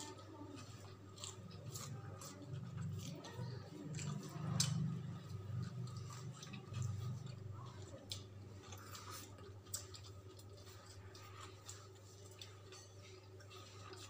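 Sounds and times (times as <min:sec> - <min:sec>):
squishing and chewing: 0:00.0 - 0:14.0
steady low hum: 0:00.0 - 0:14.0.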